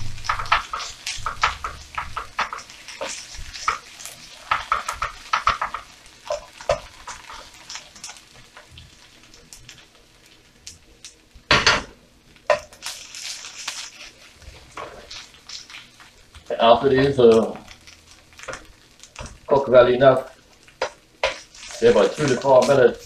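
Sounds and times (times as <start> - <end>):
faint frying sizzle: 0.0 - 23.0.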